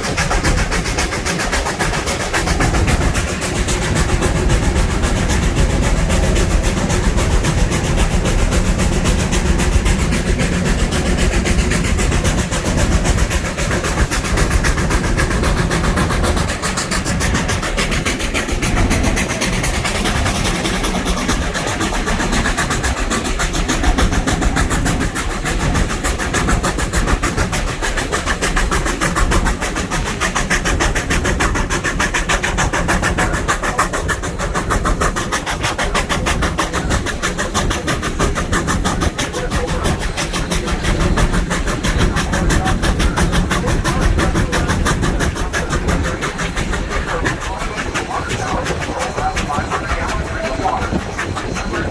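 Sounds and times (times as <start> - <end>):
vehicle running with pulsing: 0.0 - 51.9.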